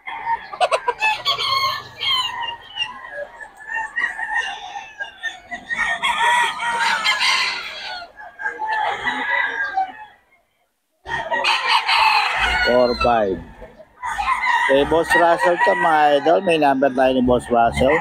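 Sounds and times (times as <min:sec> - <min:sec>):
roosters crowing and clucking: 0:00.0 - 0:18.0.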